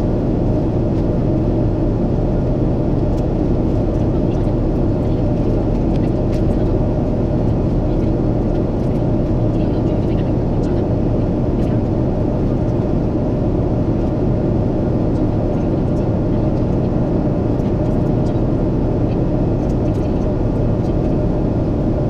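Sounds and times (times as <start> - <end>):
aircraft engines rumbling: 0.0 - 22.0.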